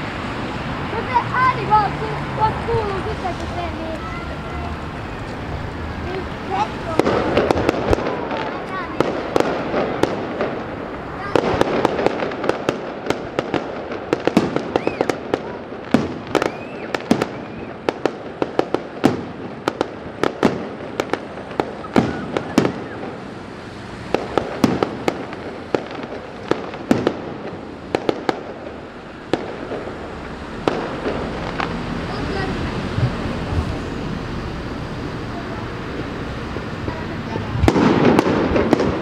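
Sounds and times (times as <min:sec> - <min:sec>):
fireworks bangs and crackling: 0:00.0 - 0:39.0
rising firework whistles: 0:01.4 - 0:39.0.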